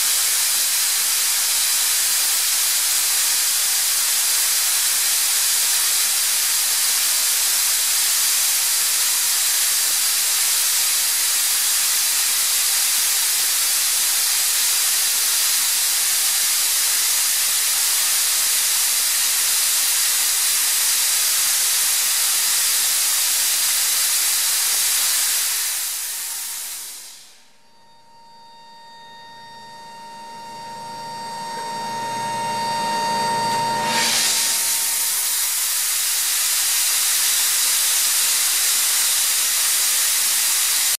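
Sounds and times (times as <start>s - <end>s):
air compressor hissing: 0.0s - 41.0s.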